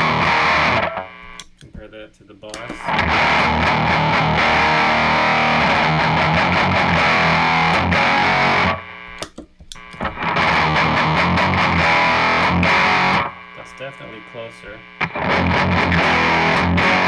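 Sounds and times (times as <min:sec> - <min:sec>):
distorted electric guitar riffs: 0:00.0 - 0:17.0.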